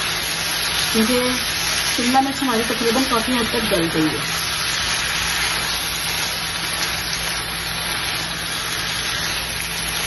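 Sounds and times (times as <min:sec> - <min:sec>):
meat and capsicum sizzling in a pan: 0:00.0 - 0:10.0.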